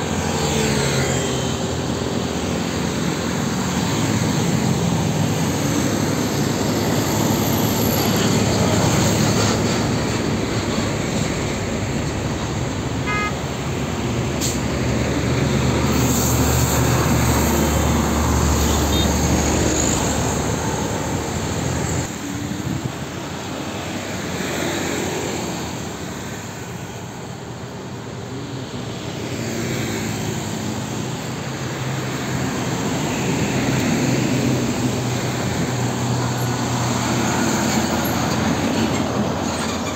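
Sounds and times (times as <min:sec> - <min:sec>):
diesel trucks passing: 0:00.0 - 0:39.9
lighter traffic: 0:00.0 - 0:39.9.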